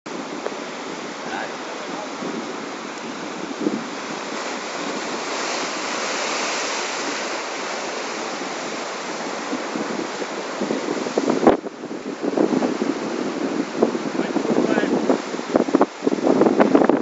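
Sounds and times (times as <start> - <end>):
surf washing over rocks: 0.1 - 17.0.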